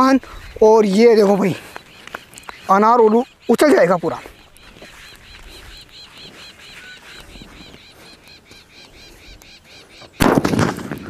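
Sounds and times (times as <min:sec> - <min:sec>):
bird chirping: 0:00.0 - 0:10.3.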